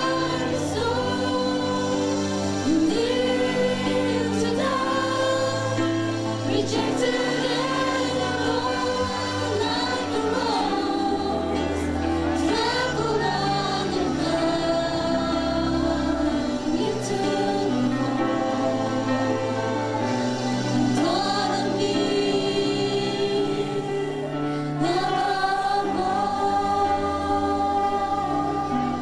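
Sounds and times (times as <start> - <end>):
gospel choir singing: 0.0 - 29.0.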